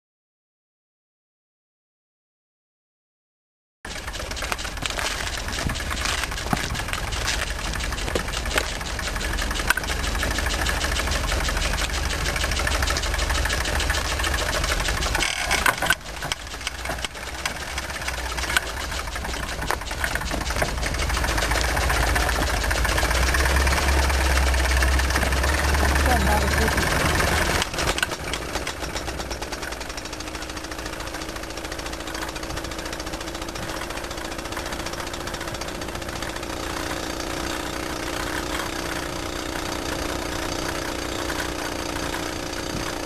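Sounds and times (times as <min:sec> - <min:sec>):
rickshaw engine running: 0:03.9 - 0:43.0.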